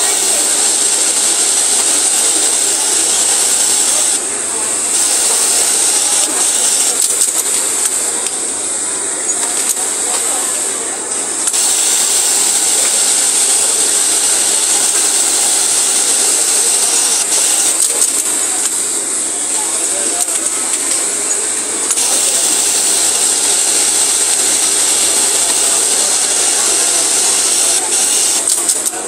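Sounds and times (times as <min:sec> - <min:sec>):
factory machinery hiss: 0:00.0 - 0:29.0.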